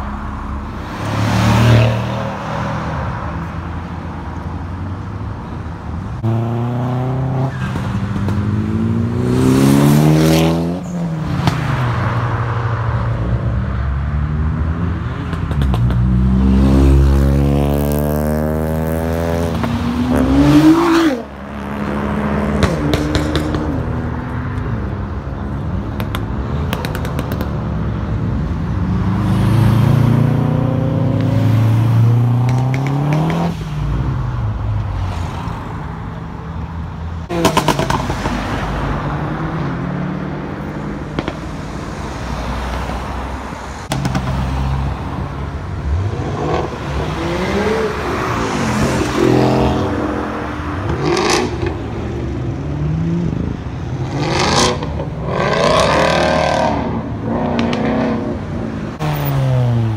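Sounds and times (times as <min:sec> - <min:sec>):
sports cars revving past: 0:00.0 - 0:03.8, 0:06.1 - 0:36.2, 0:37.2 - 0:59.9.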